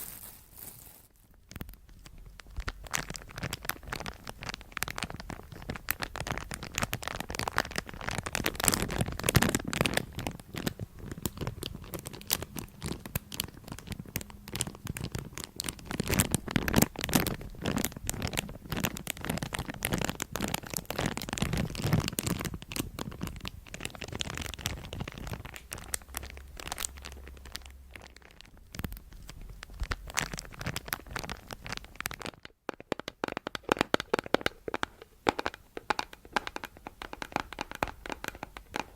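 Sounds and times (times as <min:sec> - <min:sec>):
scratching and crinkling: 0:00.0 - 0:38.9.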